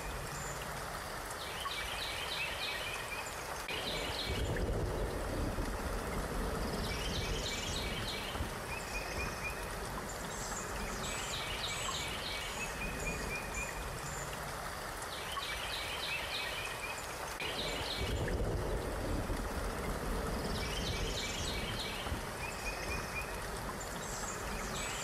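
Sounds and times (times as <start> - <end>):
songbird chirping: 0.0 - 25.0
stream flowing: 0.0 - 25.0.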